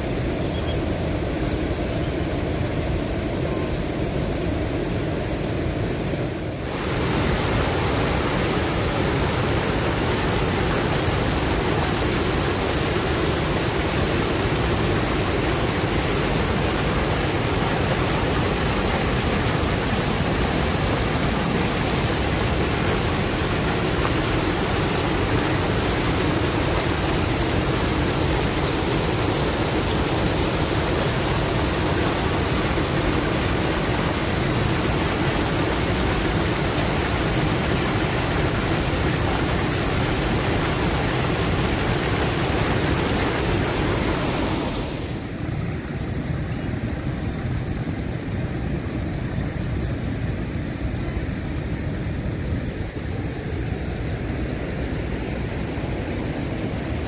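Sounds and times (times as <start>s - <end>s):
water rushing over a weir: 0.0s - 57.0s.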